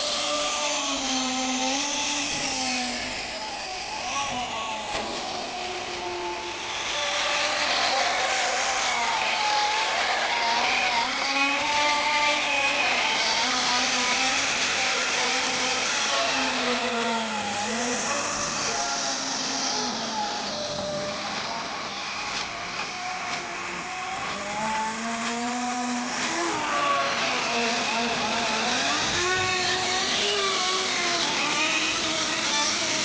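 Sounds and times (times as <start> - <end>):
model engine revving: 0.0 - 33.0.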